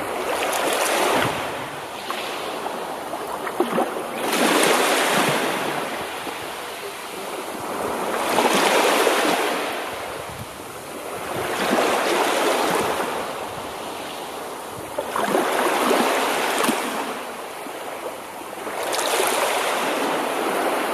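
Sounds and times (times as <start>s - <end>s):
surf-like rushing noise: 0.0s - 20.9s.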